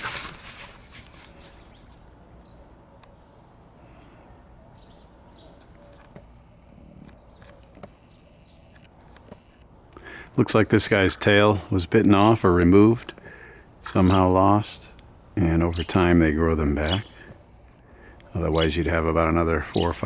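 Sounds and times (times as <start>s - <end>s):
outdoor background hum: 0.0s - 20.0s.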